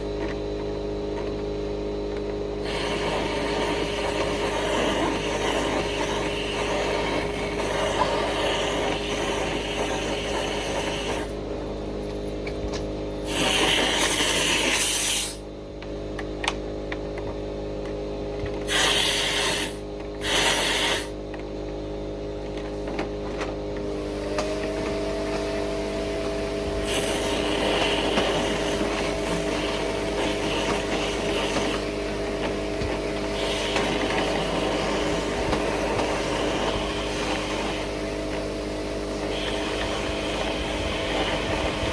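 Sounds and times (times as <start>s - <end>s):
motor running steadily: 0.0s - 41.9s.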